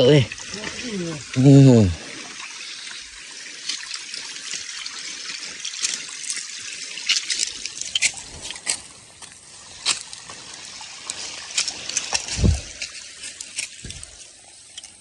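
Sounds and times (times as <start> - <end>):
sharp water ticks: 0.0 - 15.0
water trickling down rock: 0.0 - 15.0.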